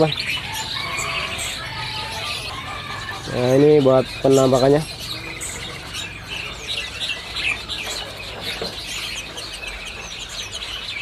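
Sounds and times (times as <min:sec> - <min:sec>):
caged songbirds chirping: 0:00.0 - 0:11.0
rapid bird trill: 0:00.0 - 0:11.0.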